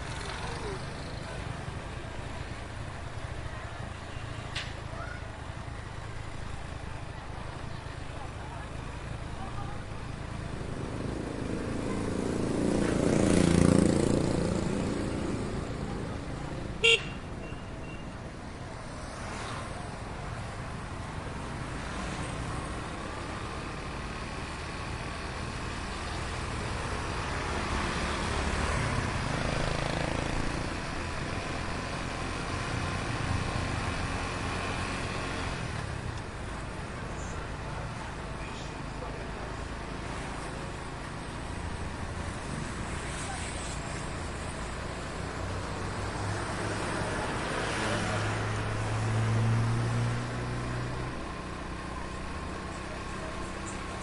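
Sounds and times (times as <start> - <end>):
heavy street traffic: 0.0 - 54.0.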